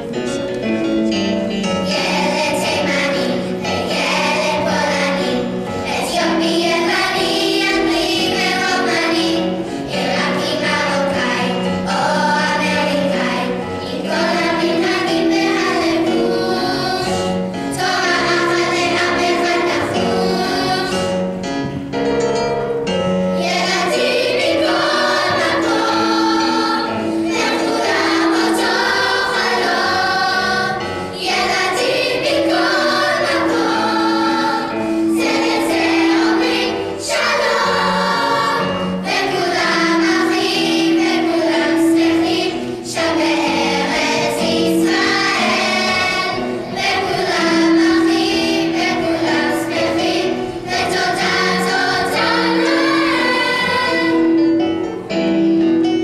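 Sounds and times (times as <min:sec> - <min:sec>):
children's choir singing: 0:00.0 - 0:56.0
electric keyboard: 0:00.0 - 0:56.0.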